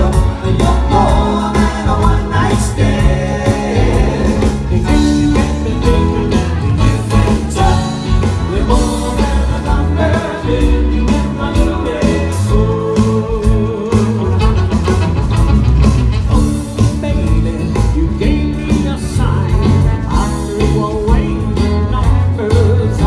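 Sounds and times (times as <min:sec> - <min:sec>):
lead singer vocal: 0:00.0 - 0:14.6, 0:16.3 - 0:23.0
bass: 0:00.0 - 0:23.0
keyboards: 0:00.0 - 0:23.0
steady drum beat: 0:00.0 - 0:23.0.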